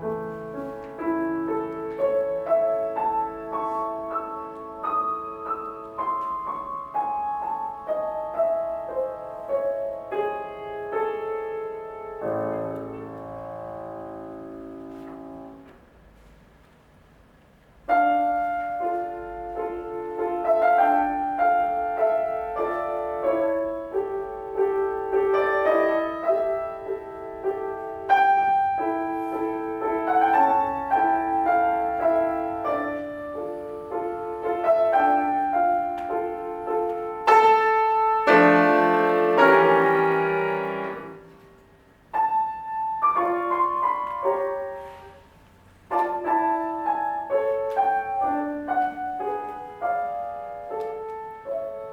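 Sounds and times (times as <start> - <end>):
solo piano classical music: 0.0 - 51.9.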